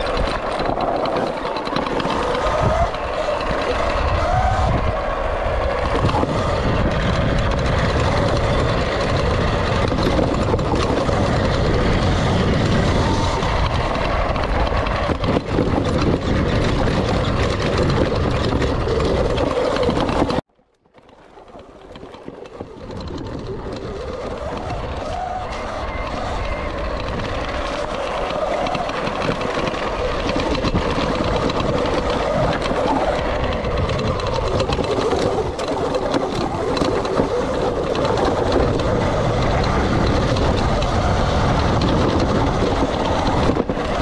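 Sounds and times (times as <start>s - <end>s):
trail rumble: 0.0s - 44.0s
wind noise: 0.0s - 44.0s.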